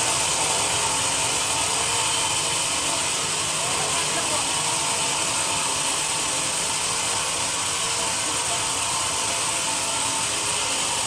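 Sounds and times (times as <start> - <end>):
sawmill saw cutting log: 0.0 - 11.0.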